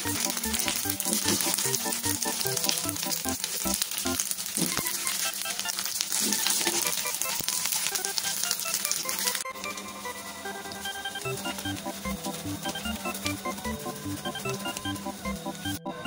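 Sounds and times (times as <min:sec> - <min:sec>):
food sizzling in a frying pan: 0:00.0 - 0:16.0
light background music: 0:00.0 - 0:16.0.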